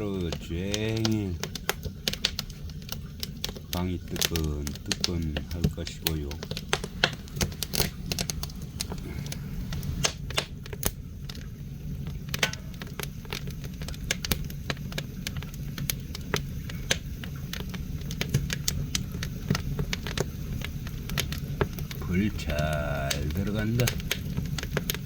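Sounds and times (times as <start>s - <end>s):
low rumble of fire draft: 0.0s - 25.0s
wood fire crackling and popping: 0.0s - 25.0s.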